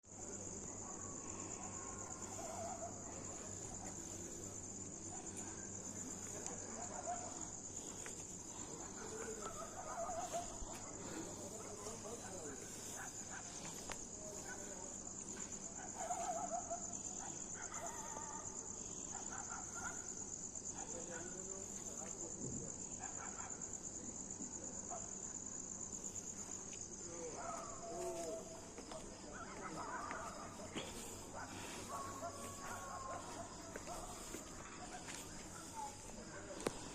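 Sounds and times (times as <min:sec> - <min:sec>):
night insects chirring: 0:00.0 - 0:36.9.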